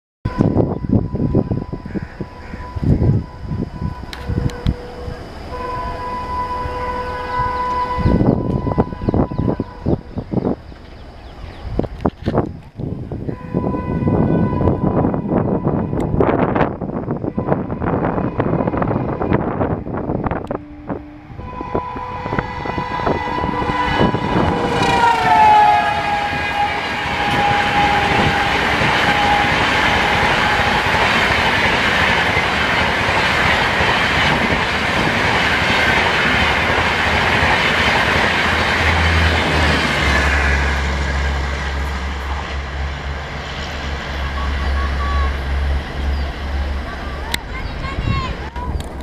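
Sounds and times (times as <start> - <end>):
locomotive horn: 0.3 - 10.4, 13.2 - 16.6, 17.2 - 34.6, 35.4 - 47.0
train coaches rumbling past: 0.3 - 49.0.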